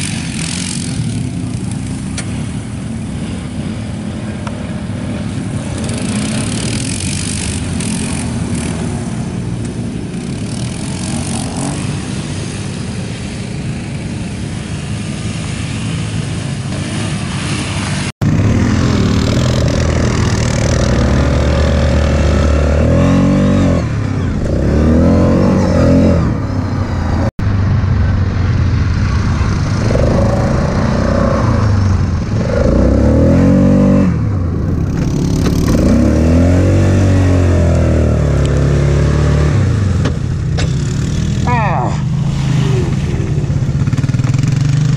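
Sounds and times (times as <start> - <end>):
atv engine revving: 0.0 - 44.9
quad churning through mud: 0.0 - 44.9.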